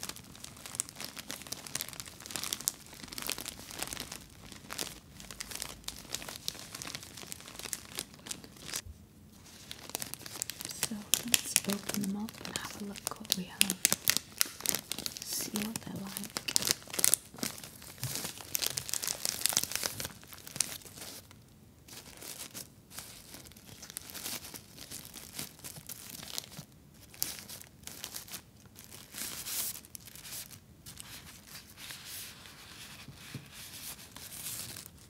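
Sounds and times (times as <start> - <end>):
plastic wrapper crinkling: 0.0 - 35.0.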